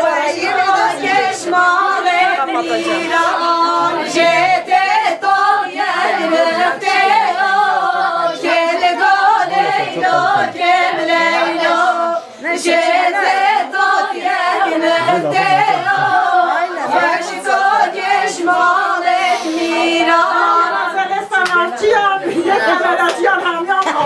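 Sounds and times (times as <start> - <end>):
women singing unaccompanied: 0.0 - 24.0.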